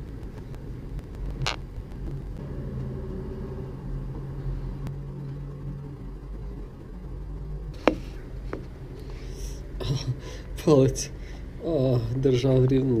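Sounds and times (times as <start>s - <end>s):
engine hum: 0.0s - 13.0s
street traffic rumble: 0.0s - 13.0s.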